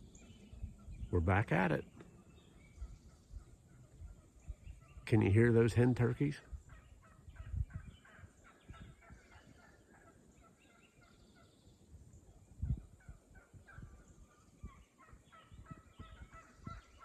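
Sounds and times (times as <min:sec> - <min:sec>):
turkeys calling faintly: 0:00.0 - 0:17.0.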